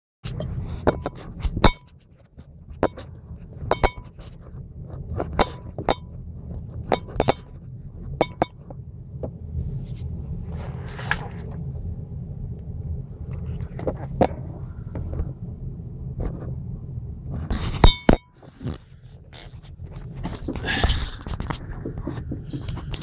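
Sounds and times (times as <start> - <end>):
steady low hum: 0.2 - 23.0.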